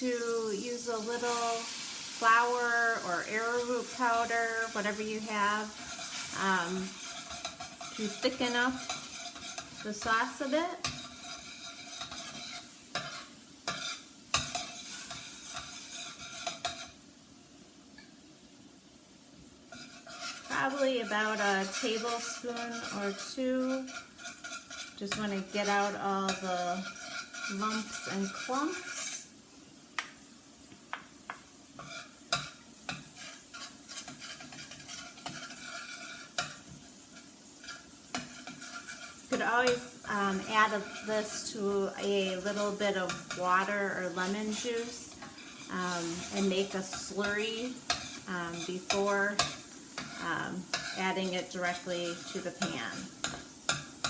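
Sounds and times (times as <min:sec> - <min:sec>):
sauce sizzling in a pan: 0:00.0 - 0:54.0
utensil stirring and knocking pan: 0:00.6 - 0:17.0, 0:19.7 - 0:29.3, 0:30.0 - 0:54.0.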